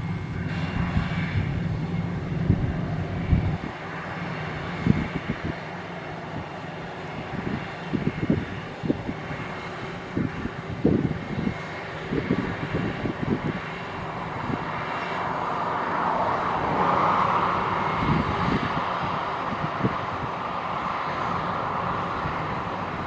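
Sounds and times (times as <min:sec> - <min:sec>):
combine harvester running: 0:00.0 - 0:23.0.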